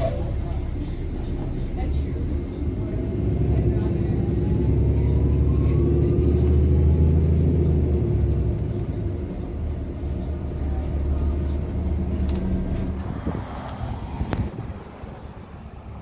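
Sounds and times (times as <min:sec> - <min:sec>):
heavy vehicle engine rumble: 0:00.0 - 0:16.0
passing cars: 0:00.0 - 0:16.0.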